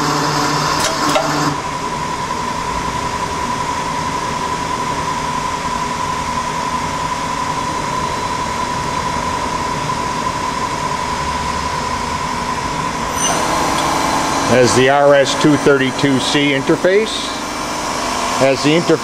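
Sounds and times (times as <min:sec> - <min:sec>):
high machine whine: 0:00.0 - 0:19.0
lathe machine hum and hiss: 0:00.0 - 0:19.0.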